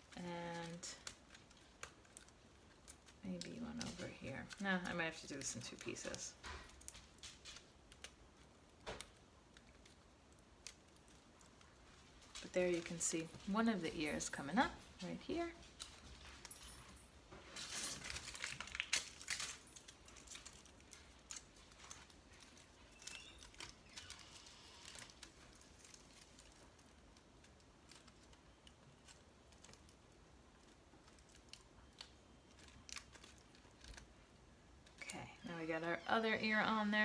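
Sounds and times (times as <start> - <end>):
foil crinkling: 0.0 - 37.0.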